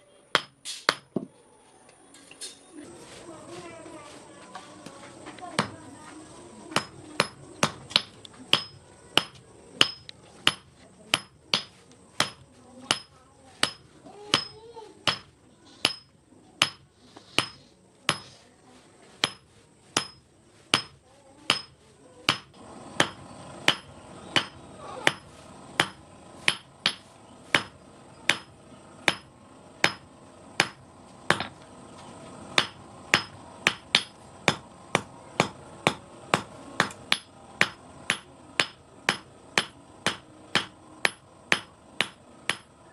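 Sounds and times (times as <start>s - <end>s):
hammer striking steel on anvil: 0.3s - 1.1s, 6.7s - 18.4s, 19.2s - 31.6s, 32.6s - 42.7s.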